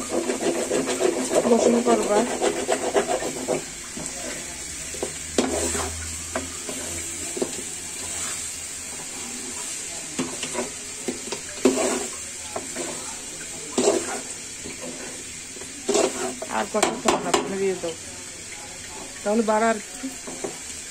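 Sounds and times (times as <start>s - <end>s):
metal spoon scraping metal pan: 0.0s - 17.6s
high sizzle from pan: 0.0s - 20.9s.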